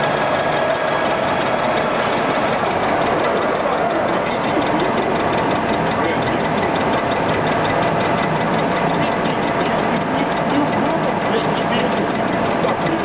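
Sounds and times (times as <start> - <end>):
fast even ticking: 0.0 - 13.0
machine whirring: 0.0 - 13.0.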